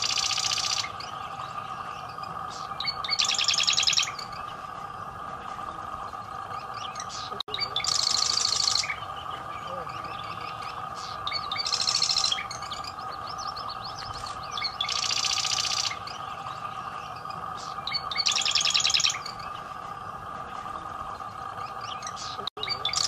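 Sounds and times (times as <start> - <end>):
steady background hum: 0.0 - 23.0
wren buzzy rattling trills: 0.0 - 23.0.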